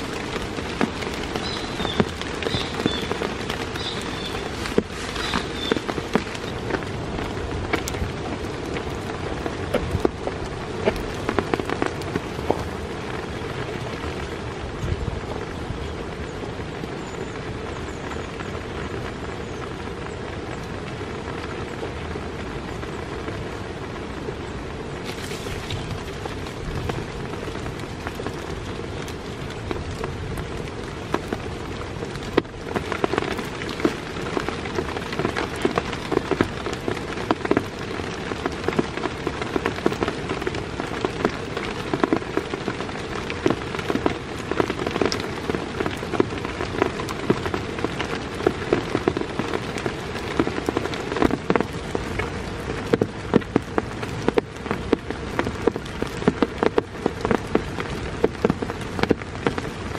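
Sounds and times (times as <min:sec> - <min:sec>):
close raindrop hits: 0:00.0 - 0:59.9
heavy rain hissing: 0:00.0 - 0:59.9.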